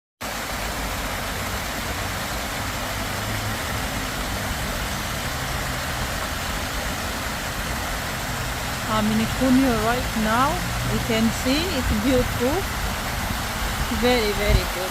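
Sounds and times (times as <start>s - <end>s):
water fountain splashing: 0.2s - 14.9s.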